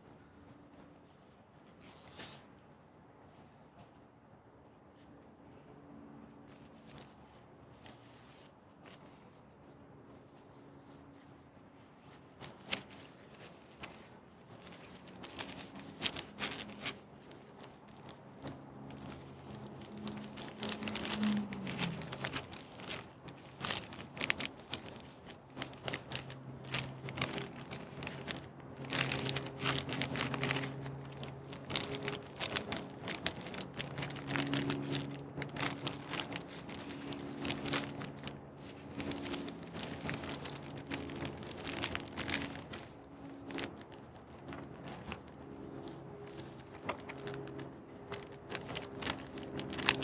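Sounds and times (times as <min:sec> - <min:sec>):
plastic and paper crinkling: 0:00.0 - 0:04.1, 0:06.3 - 0:50.0
low steady hum: 0:00.0 - 0:50.0.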